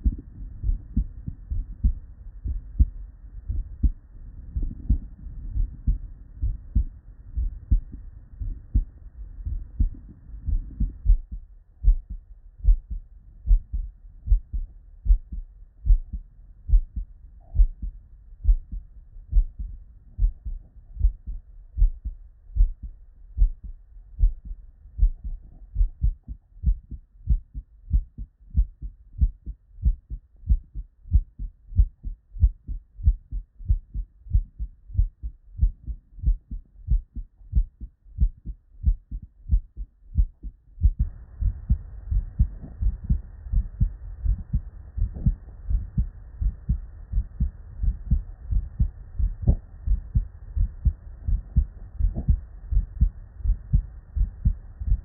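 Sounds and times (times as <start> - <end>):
heartbeat through stethoscope: 0.0 - 55.0.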